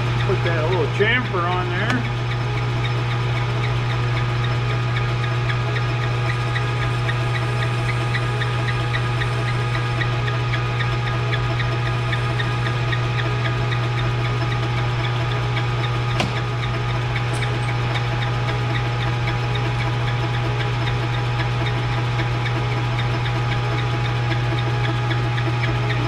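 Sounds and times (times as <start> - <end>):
metal lathe humming: 0.0 - 26.0.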